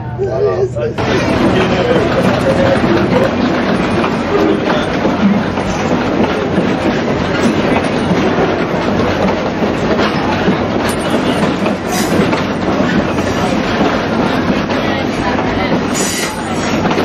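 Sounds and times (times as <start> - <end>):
steel train wheels rumbling on rails: 0.0 - 17.0.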